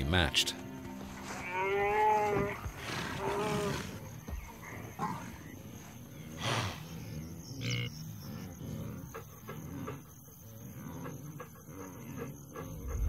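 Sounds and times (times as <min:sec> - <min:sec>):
cheetah calls and rasps: 0:01.2 - 0:13.0.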